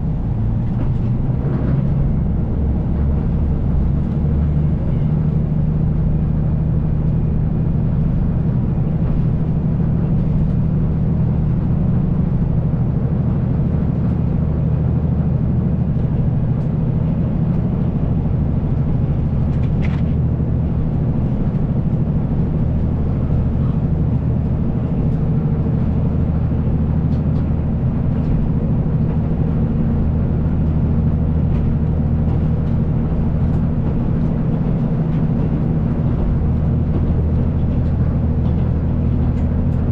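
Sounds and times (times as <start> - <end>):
diesel engine drone: 0.0 - 39.9
wheel-on-rail rumble: 0.0 - 39.9.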